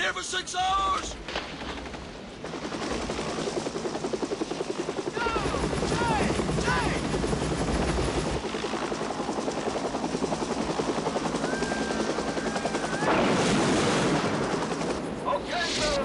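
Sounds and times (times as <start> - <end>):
helicopter rotor blades beating: 0.0 - 16.0.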